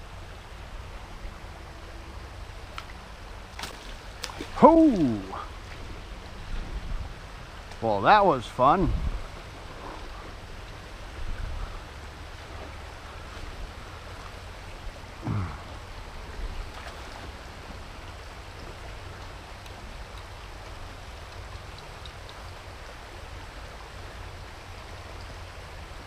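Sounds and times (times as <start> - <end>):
river current over stones: 0.0 - 26.0.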